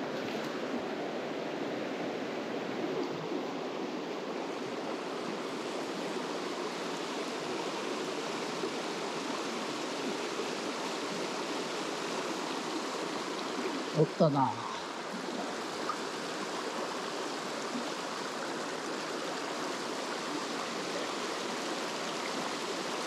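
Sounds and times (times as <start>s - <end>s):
stream water running over rocks: 0.0s - 23.0s.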